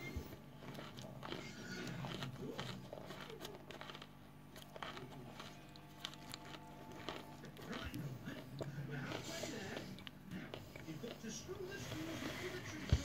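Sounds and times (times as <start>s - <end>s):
chewing crunchy frozen chunks: 0.0s - 13.0s.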